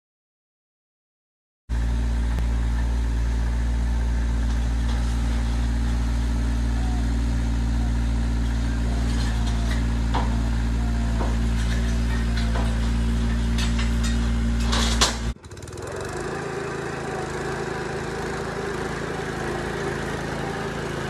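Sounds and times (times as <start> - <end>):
skid steer engine running: 1.7 - 21.0.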